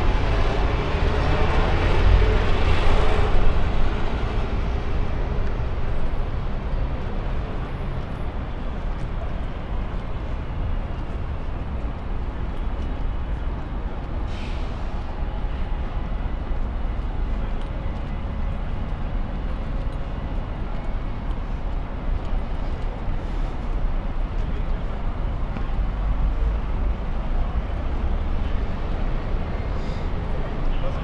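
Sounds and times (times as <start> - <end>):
passing vehicles rumbling: 0.0 - 31.0.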